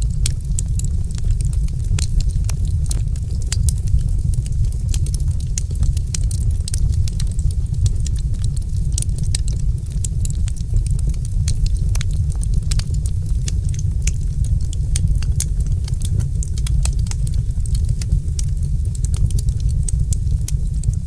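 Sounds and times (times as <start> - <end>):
fire low rumble: 0.0 - 21.0
wood fire snapping and popping: 0.0 - 21.0.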